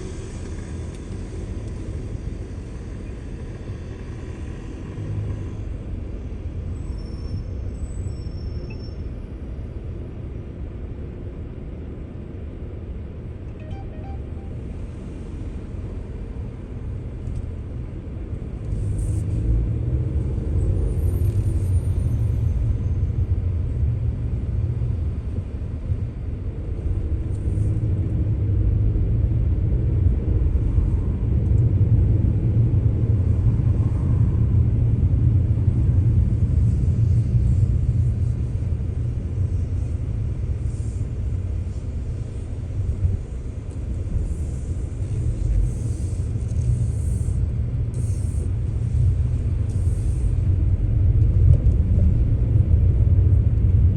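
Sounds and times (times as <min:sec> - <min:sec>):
car road and engine noise: 0:00.0 - 0:53.9.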